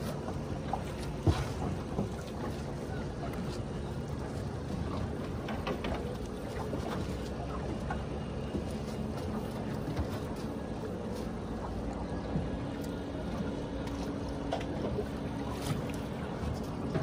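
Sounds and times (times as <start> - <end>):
boat motor running: 0.0 - 17.0
water noise: 0.0 - 17.0
wind: 0.0 - 17.0.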